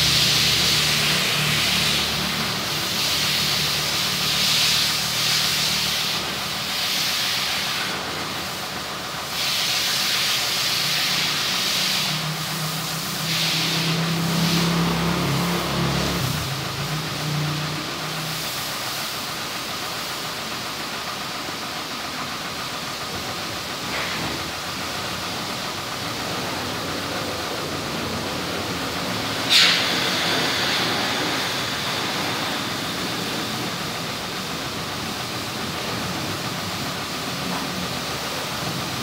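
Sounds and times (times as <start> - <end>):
pressure washer spraying: 0.0 - 39.0.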